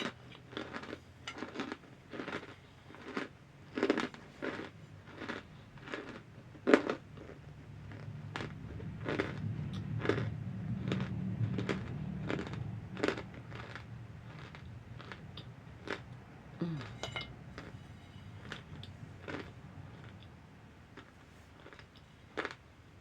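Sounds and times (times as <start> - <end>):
crunching and chewing: 0.0 - 23.0.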